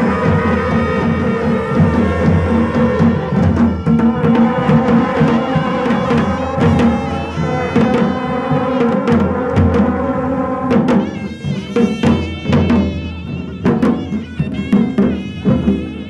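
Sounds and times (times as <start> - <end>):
drums beaten: 0.0 - 16.0
wind instruments holding notes: 0.0 - 16.0.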